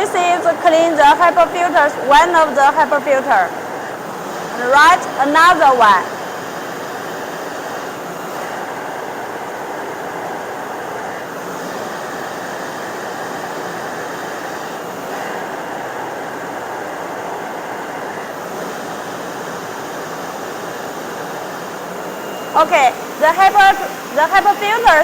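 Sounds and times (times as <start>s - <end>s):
vacuum cleaner airy rush: 0.0s - 25.0s.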